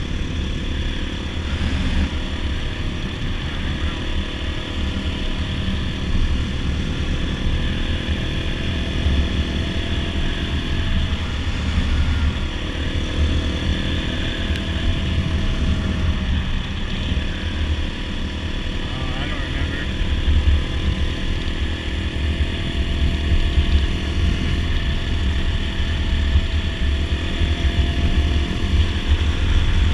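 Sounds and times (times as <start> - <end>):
dirt bike engine running: 0.0 - 29.9
wind rumble on microphone: 0.0 - 29.9.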